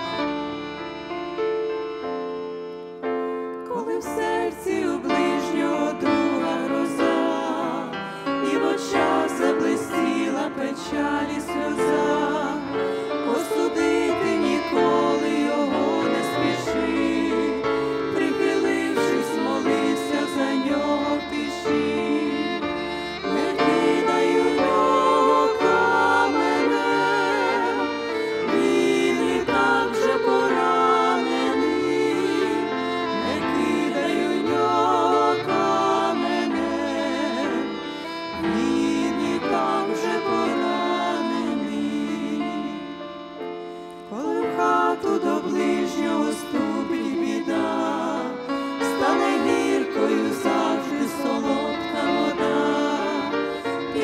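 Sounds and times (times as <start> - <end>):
instrumental accompaniment: 0.0 - 54.0
women singing hymn in harmony: 3.6 - 54.0.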